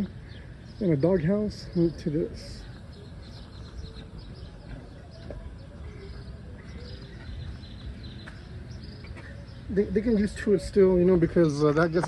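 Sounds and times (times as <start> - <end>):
faint bird chirps: 0.0 - 11.5
low outdoor background noise: 0.0 - 12.0.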